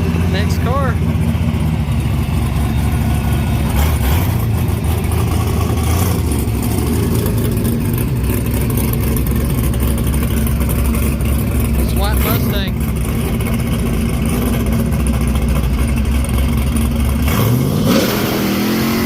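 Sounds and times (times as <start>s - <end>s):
race car engines rumbling: 0.0s - 19.0s.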